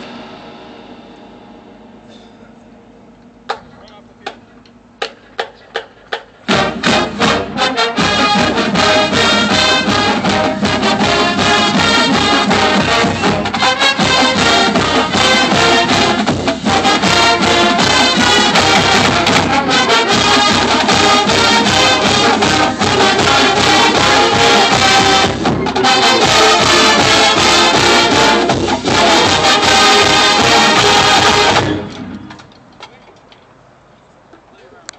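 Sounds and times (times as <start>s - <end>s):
marching band playing: 0.0s - 32.6s.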